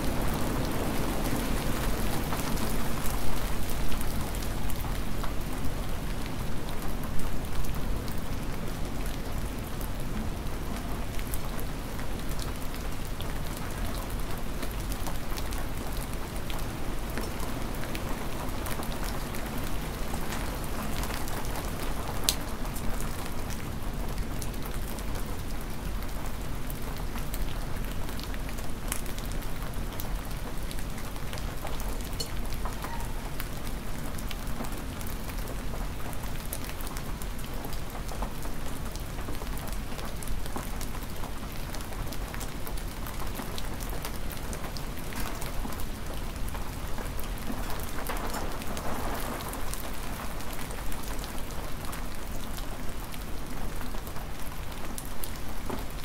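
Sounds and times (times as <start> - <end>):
hard rain falling: 0.0 - 56.0.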